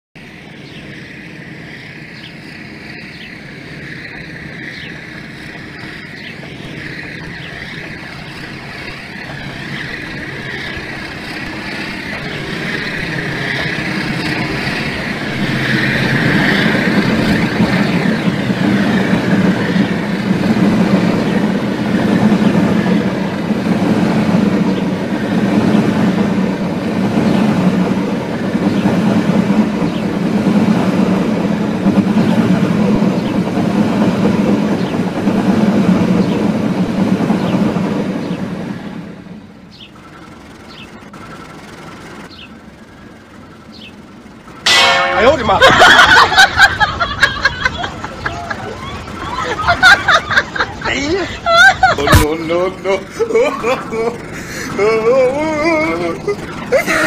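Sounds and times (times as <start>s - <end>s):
train approaching: 0.1s - 57.0s.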